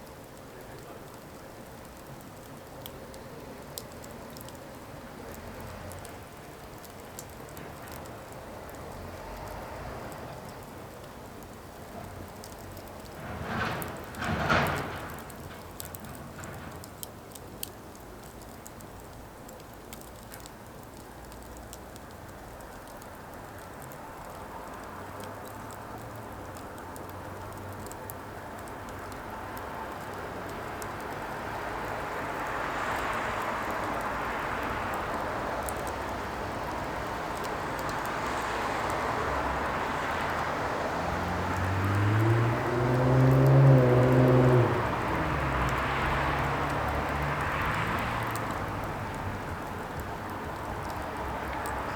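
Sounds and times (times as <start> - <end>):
firewood crackling: 0.0 - 51.9.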